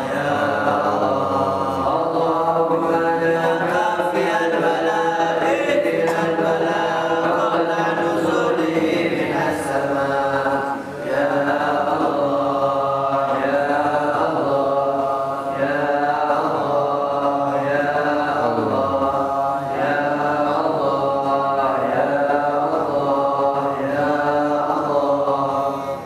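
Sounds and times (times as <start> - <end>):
man chanting into a microphone: 0.0 - 26.0.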